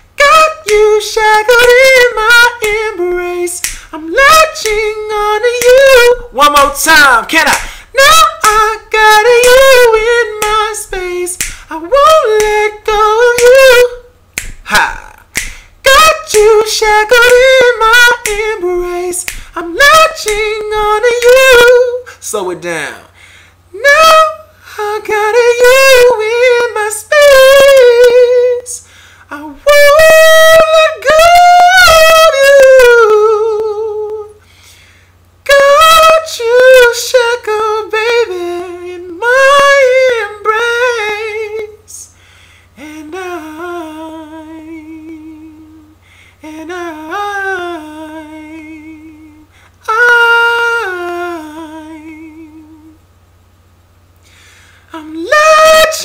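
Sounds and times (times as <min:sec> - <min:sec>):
man singing unaccompanied: 0:00.0 - 0:34.4, 0:35.4 - 0:42.1, 0:42.8 - 0:53.0, 0:54.9 - 0:56.0.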